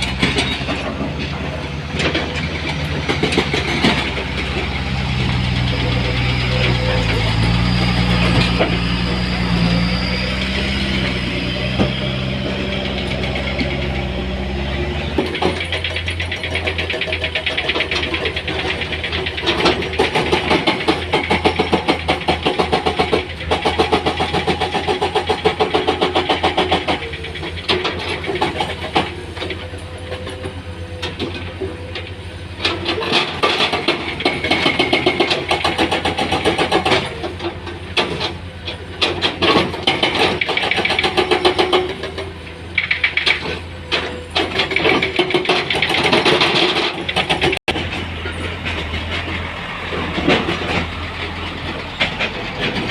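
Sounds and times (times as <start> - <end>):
heavy diesel engine clattering: 0.0 - 52.9.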